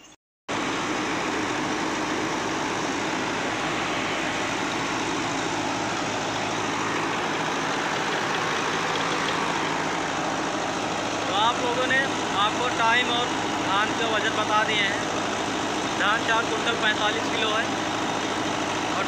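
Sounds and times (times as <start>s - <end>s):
tractor-driven rice mill running: 0.5s - 19.0s.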